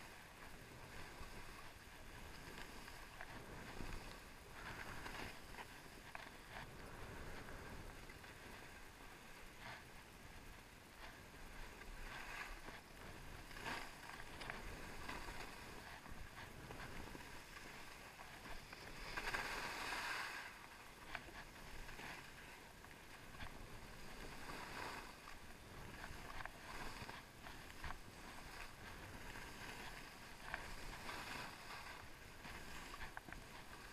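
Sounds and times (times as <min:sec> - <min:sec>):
skis swishing on snow: 0:00.0 - 0:33.9.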